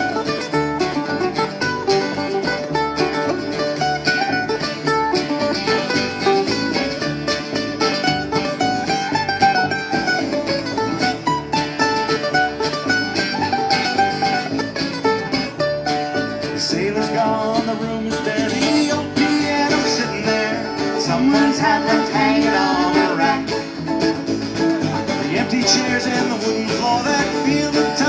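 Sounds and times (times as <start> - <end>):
acoustic folk band playing: 0.0 - 28.0.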